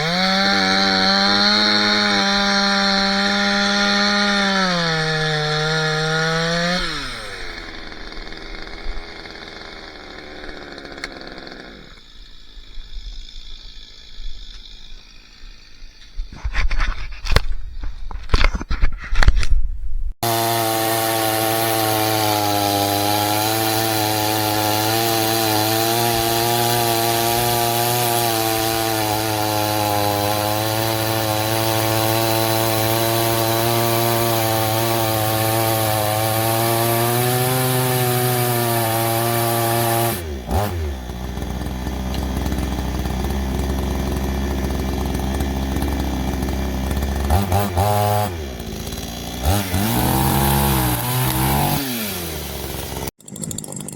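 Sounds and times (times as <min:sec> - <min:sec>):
chainsaw running at high revs: 0:00.0 - 0:16.4, 0:20.2 - 0:53.9.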